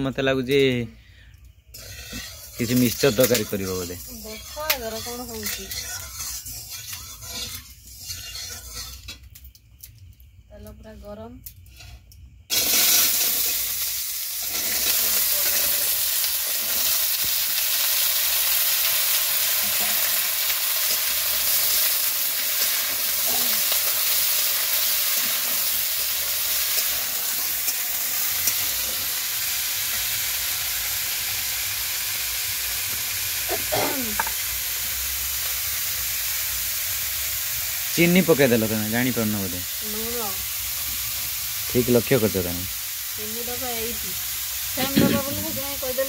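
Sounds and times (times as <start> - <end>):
vegetables sizzling in hot oil: 0.0 - 46.0.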